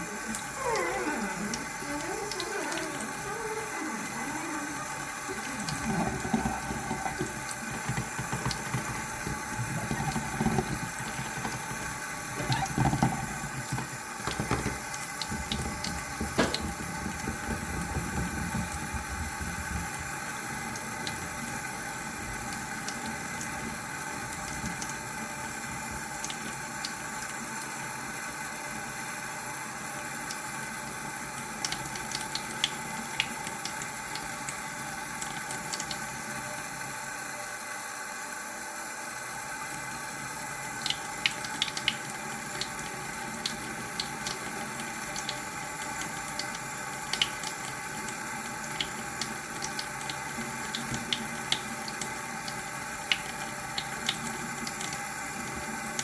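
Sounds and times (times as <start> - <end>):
tap water running into sink: 0.0 - 37.6, 38.8 - 56.0.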